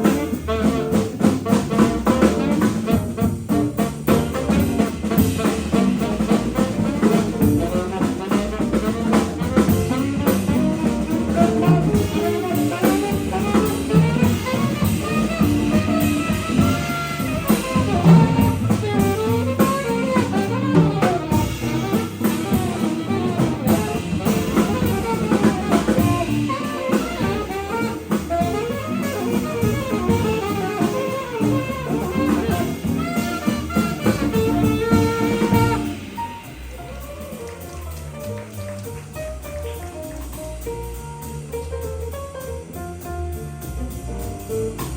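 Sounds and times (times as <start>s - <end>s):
alto saxophone melody: 0.0s - 44.9s
jazz band playing: 0.0s - 44.9s.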